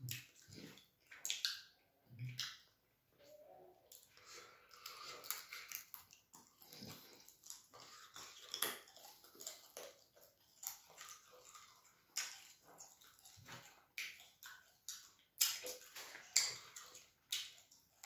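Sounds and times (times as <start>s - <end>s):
person chewing food: 0.0s - 2.7s, 3.9s - 18.0s.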